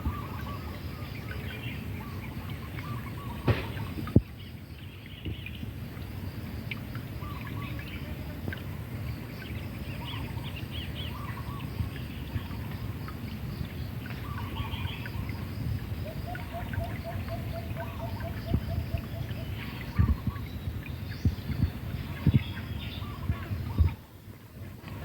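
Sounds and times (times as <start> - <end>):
birds chirping and warbling: 0.0 - 6.1, 6.7 - 25.0.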